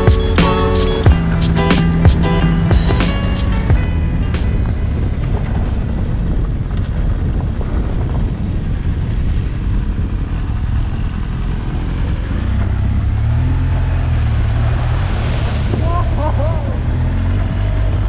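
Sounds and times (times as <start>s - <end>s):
motorcycle engine running: 0.0s - 14.8s
road and wind noise: 0.0s - 18.0s.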